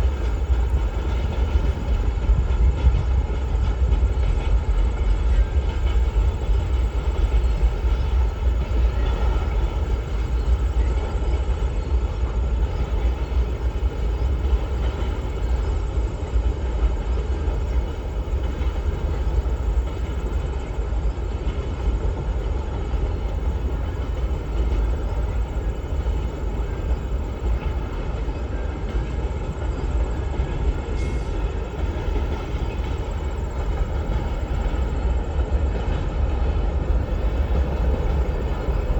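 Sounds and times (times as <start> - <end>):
train rumbling over rails: 0.0 - 38.9.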